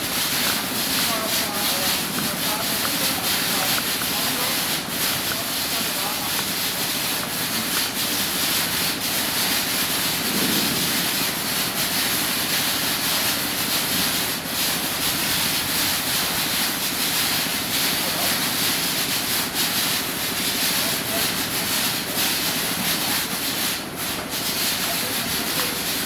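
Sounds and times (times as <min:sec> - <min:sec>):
conveyor machinery noise: 0:00.0 - 0:26.0.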